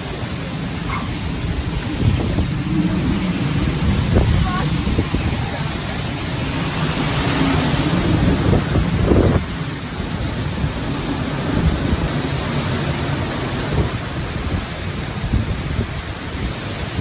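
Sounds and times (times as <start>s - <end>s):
hurricane wind: 0.0s - 17.0s
rain: 0.0s - 17.0s.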